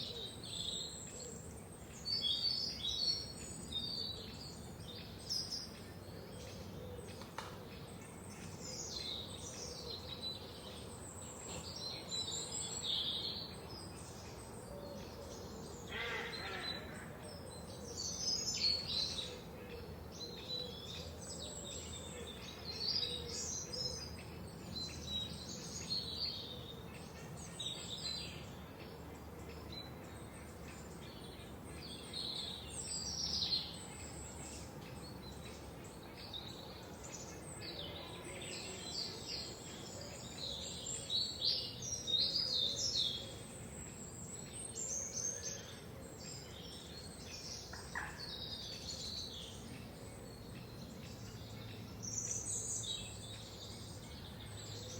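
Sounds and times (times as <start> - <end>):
songbirds chirping and trilling: 0.0 - 54.9
steady low background hiss: 0.0 - 54.9.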